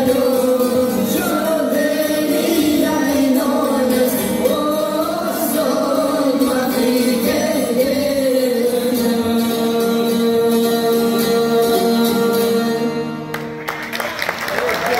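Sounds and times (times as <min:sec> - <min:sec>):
person singing: 0:00.0 - 0:13.4
lutes playing: 0:00.0 - 0:13.9.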